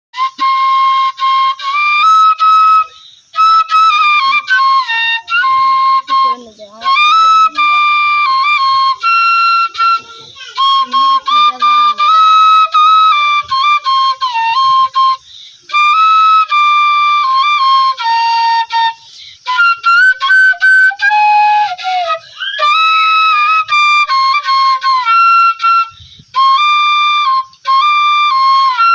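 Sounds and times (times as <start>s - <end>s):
bamboo flute melody: 0.1s - 28.9s.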